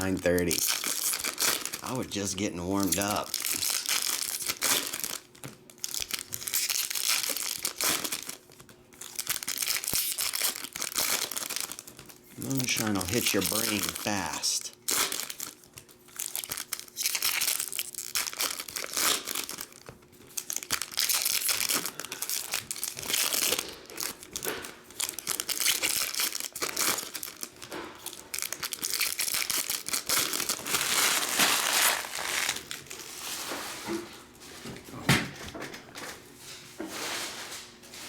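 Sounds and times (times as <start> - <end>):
wrappers tearing and crinkling: 0.0 - 33.5.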